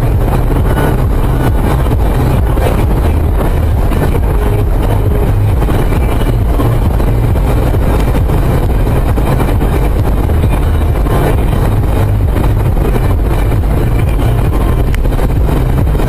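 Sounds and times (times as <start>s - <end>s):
tyre and engine rumble: 0.0s - 16.0s.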